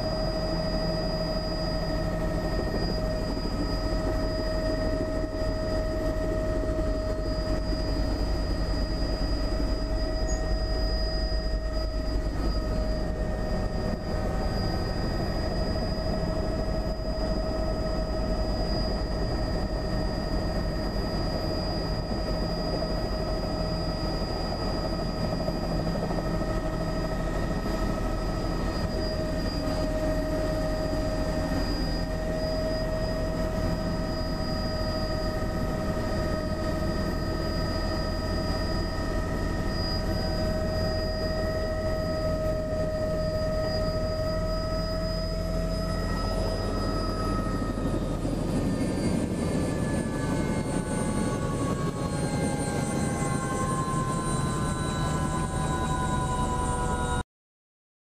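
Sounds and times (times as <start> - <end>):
helicopter rotor and engine: 0.0 - 57.2
high whine: 0.0 - 57.2.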